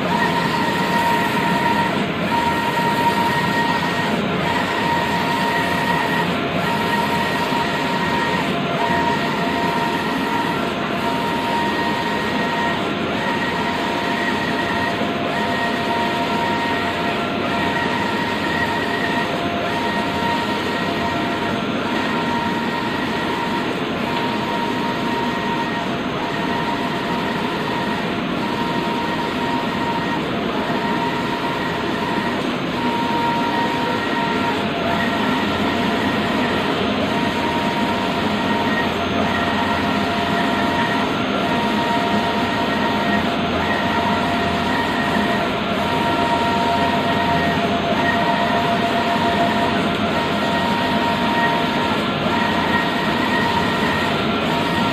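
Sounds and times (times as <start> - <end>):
inkjet printer whirring: 0.0 - 54.9
steady printer tone: 0.0 - 54.9.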